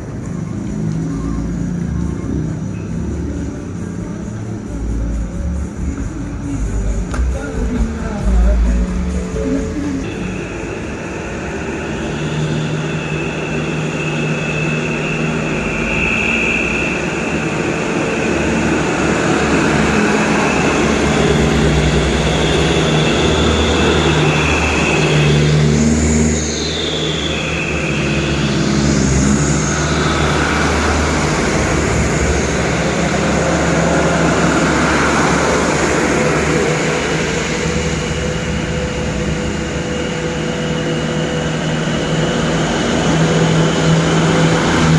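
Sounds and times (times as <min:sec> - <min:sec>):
diesel truck engines: 0:00.0 - 0:44.9.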